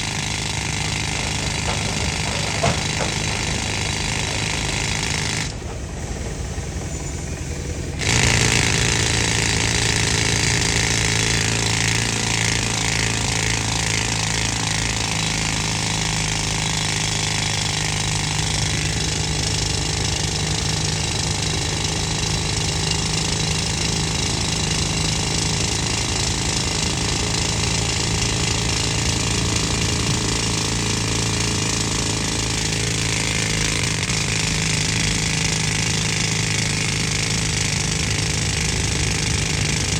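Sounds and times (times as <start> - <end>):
air compressor drone: 0.0 - 39.9
pneumatic rock drill hammering: 0.0 - 39.9.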